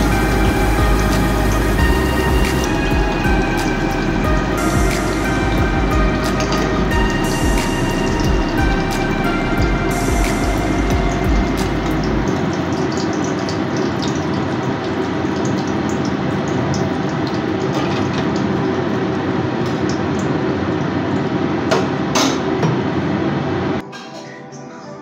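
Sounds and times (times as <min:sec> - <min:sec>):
hot oil sizzling: 0:00.0 - 0:22.1.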